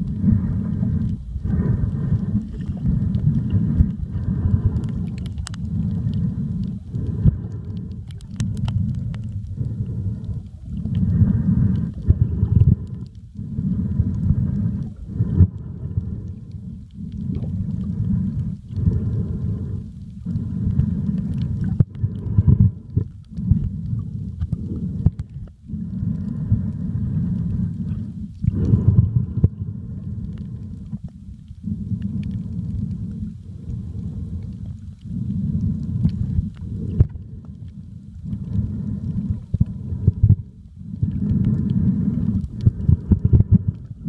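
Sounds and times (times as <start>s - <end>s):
faint underwater clicks: 0.0s - 44.0s
underwater rumble and sloshing: 0.0s - 44.0s.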